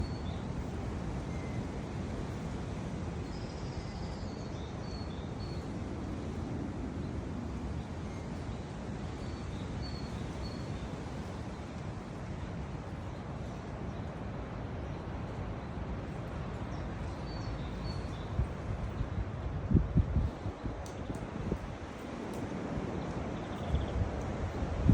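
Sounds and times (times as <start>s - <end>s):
low rushing background noise: 0.0s - 24.9s.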